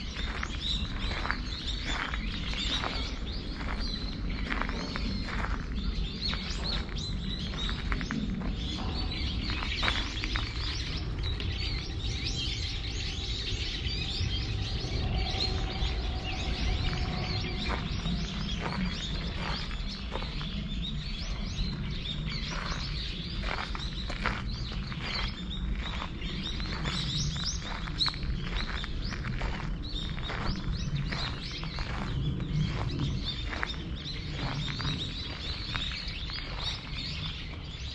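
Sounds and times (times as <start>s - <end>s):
low rumble: 0.0s - 37.9s
small birds chirping: 0.0s - 37.9s.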